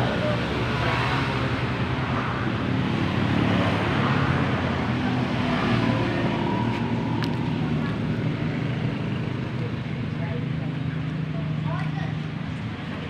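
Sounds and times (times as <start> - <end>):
vehicle engines droning: 0.0 - 13.0.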